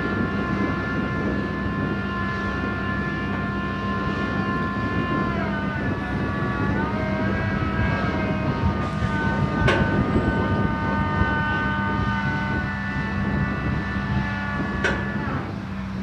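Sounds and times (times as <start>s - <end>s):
crane engine and hydraulic whine: 0.0s - 16.0s
low rumble: 0.0s - 16.0s.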